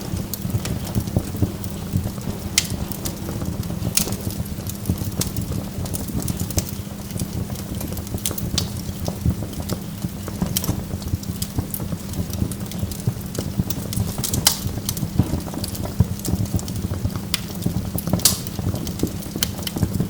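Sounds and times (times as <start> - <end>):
burning logs crackling: 0.0 - 20.0
low fire rumble: 0.0 - 20.0.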